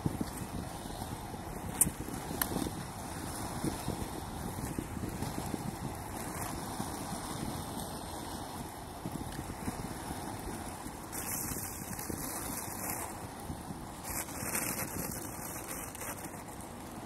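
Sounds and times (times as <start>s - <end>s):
skate wheels rolling on asphalt: 0.0s - 17.0s
wind rushing over microphone: 0.0s - 17.0s.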